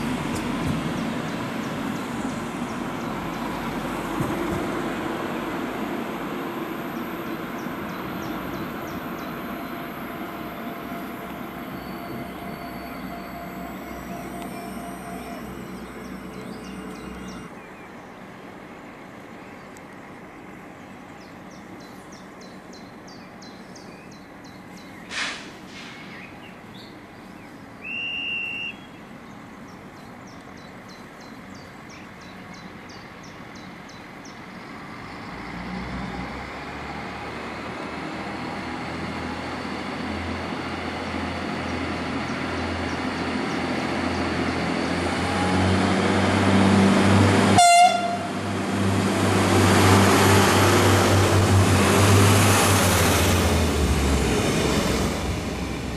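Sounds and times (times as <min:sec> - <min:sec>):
diesel railcar engine hum: 0:00.0 - 0:55.9.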